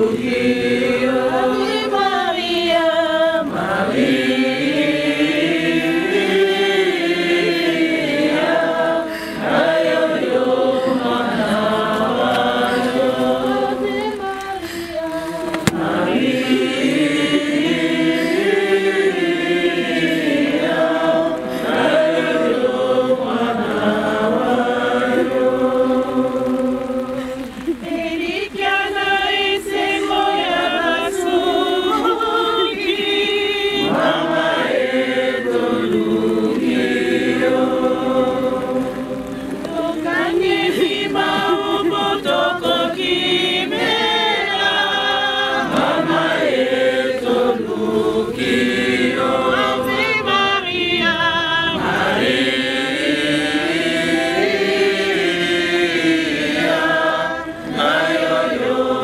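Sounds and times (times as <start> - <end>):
group singing together: 0.0 - 59.0.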